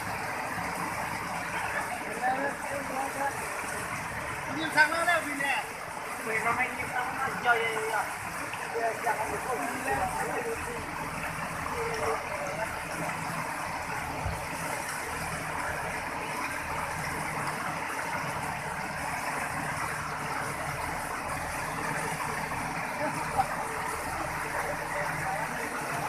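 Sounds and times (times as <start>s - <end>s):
diesel engine running low: 0.0s - 26.0s
floodwater rushing over rocks: 0.0s - 26.0s.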